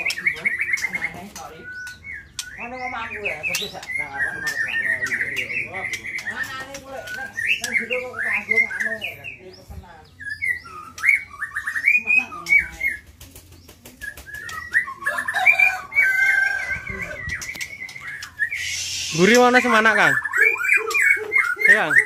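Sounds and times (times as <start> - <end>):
bird singing whistles and chirps: 0.0 - 9.4, 10.1 - 13.0, 14.0 - 22.0.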